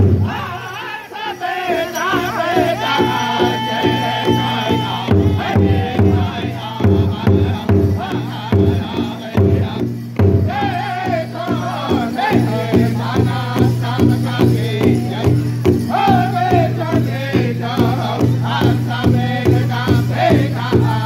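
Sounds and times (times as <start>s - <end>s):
large hide drum beating: 0.0s - 0.6s, 2.6s - 21.0s
group singing in wavering voices: 0.0s - 21.0s.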